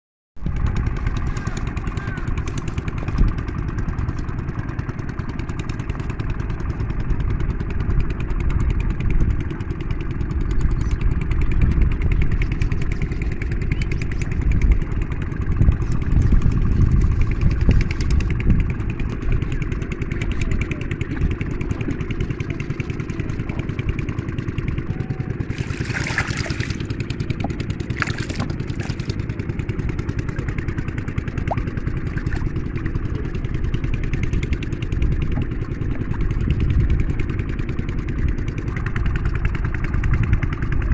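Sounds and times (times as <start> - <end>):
small engine running: 0.4 - 40.9.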